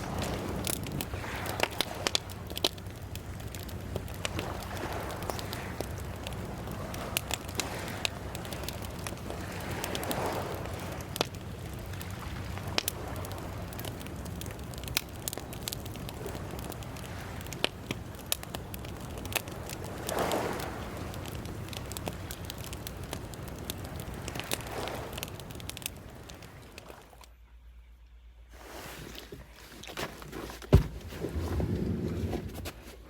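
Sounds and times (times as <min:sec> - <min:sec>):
wood fire crackling: 0:00.0 - 0:27.3, 0:28.5 - 0:33.0.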